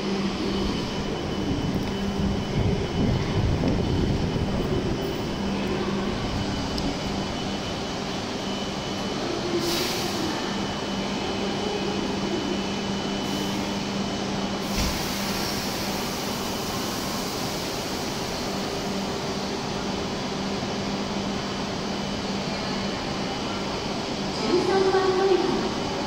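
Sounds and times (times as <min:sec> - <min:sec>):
train air-conditioning rushing hum: 0:00.0 - 0:26.0.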